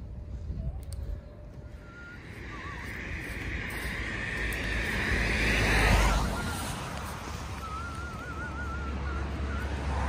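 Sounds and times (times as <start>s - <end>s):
wind buffeting microphone: 0.0s - 10.0s
faint warbling whistle: 0.5s - 10.0s.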